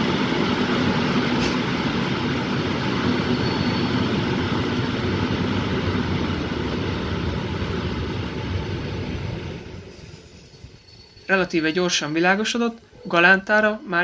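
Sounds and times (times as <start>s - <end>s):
train wheels rumbling on rails: 0.0s - 12.8s.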